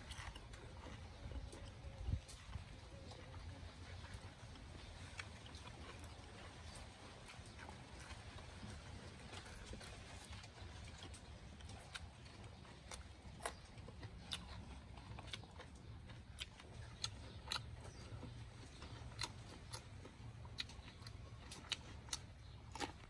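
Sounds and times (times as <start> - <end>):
person chewing and crunching: 0.0 - 23.0.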